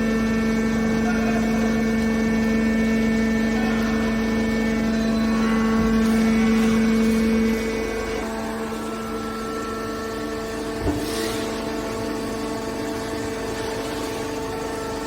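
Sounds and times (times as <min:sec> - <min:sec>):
hydraulic motor and pump humming: 0:00.0 - 0:15.0.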